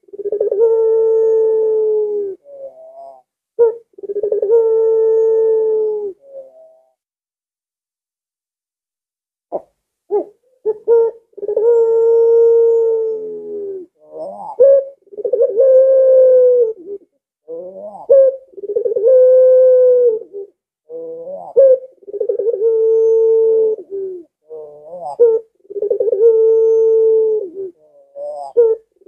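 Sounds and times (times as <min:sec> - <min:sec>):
dove cooing loudly: 0:00.0 - 0:06.9, 0:09.5 - 0:29.0.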